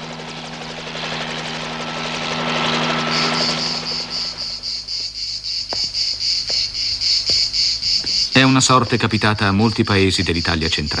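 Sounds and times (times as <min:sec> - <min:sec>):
helicopter drone: 0:00.0 - 0:11.0
insects chirping: 0:00.0 - 0:11.0.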